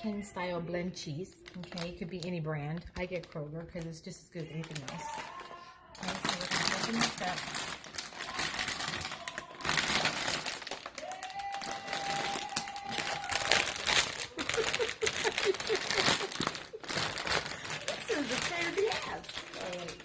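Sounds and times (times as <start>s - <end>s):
plastic bag crinkling: 1.0s - 20.0s.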